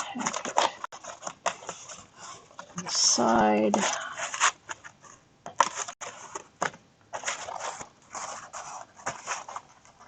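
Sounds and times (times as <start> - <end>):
paper rustling and scraping: 0.0 - 10.0.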